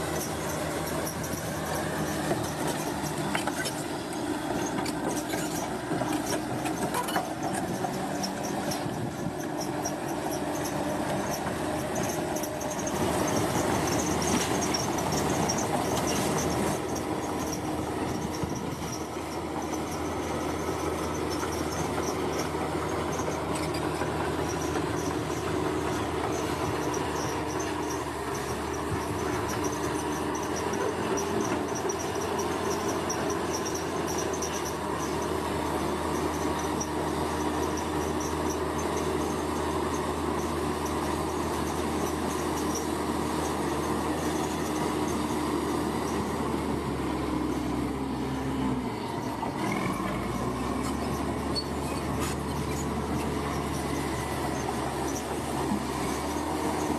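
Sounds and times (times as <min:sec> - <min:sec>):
diesel construction machinery drone: 0:00.0 - 0:56.9.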